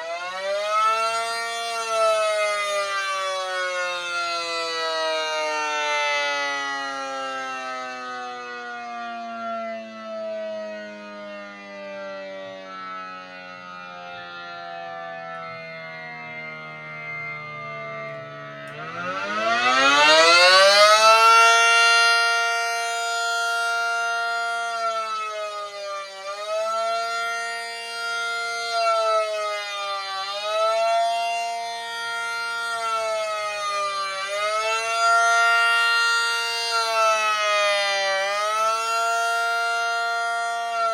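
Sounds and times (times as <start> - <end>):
siren winding down: 0.0 - 40.9.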